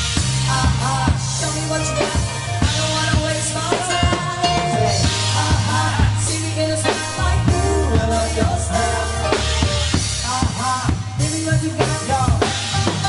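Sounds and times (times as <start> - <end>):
bass line: 0.0 - 13.0
drum kit beat: 0.0 - 13.0
electronic keyboard: 0.0 - 13.0
person singing: 0.1 - 13.0.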